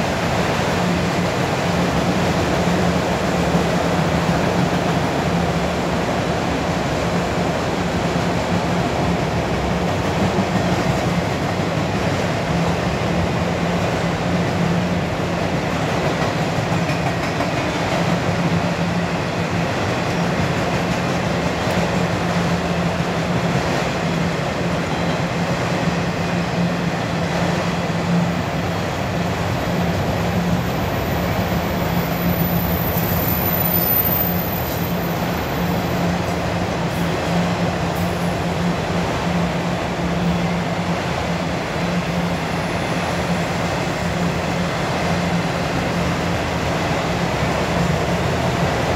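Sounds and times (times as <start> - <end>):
freight train wheels rumbling: 0.0 - 48.9.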